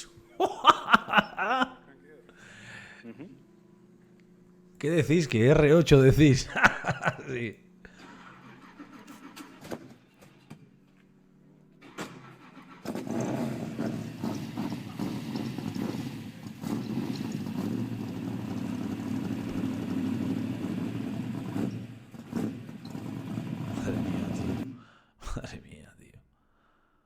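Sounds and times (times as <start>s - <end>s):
sports car engine running: 0.0s - 24.8s.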